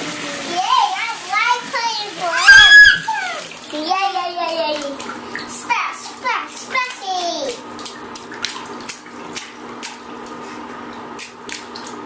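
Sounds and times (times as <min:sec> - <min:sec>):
bathwater splashing and dripping: 0:00.0 - 0:12.0
steady background hum: 0:00.4 - 0:12.0.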